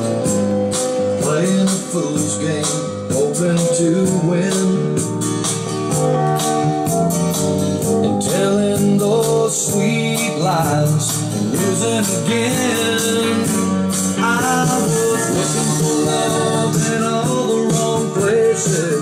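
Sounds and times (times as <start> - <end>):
song with vocals guitar and beat: 0.0 - 19.0.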